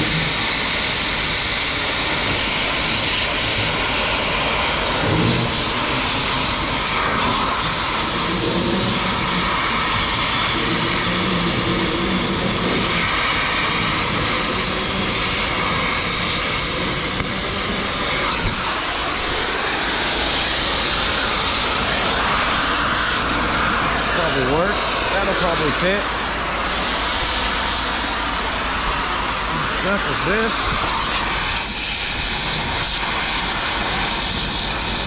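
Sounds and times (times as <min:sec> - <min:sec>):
cutting torch hissing: 0:00.0 - 0:35.0.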